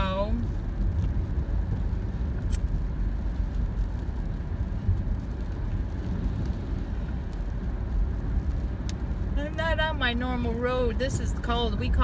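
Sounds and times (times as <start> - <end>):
car driving on wet road: 0.0 - 12.0.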